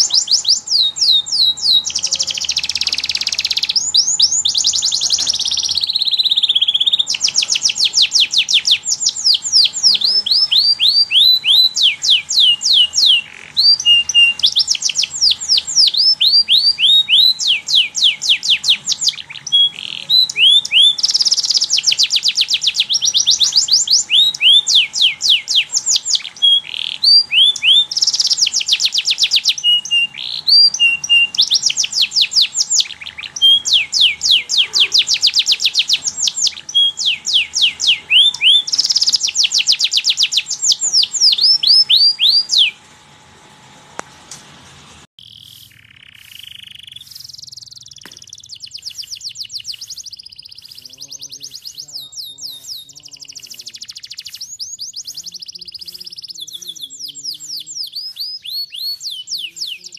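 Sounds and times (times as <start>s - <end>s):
canary singing: 0.0s - 42.8s, 45.2s - 59.9s.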